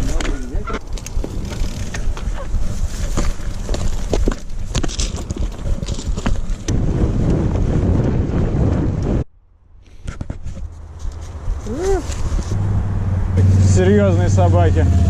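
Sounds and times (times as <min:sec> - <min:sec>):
wind buffeting microphone: 0:00.0 - 0:09.3, 0:10.0 - 0:15.0.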